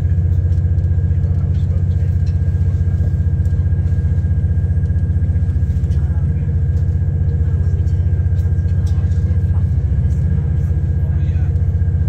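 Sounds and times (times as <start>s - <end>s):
diesel engine drone: 0.0s - 12.0s.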